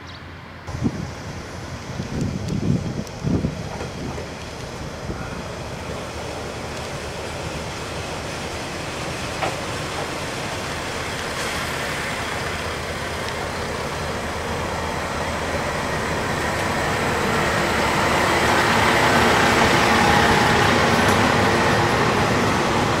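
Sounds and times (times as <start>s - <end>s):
diesel railcar approaching: 0.0s - 23.0s.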